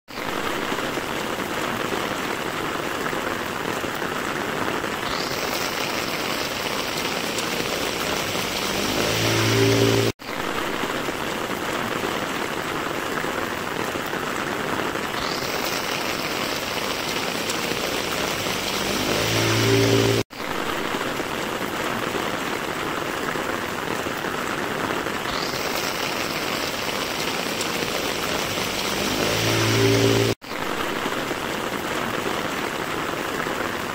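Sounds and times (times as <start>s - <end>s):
heavy rain on street: 0.1s - 33.9s.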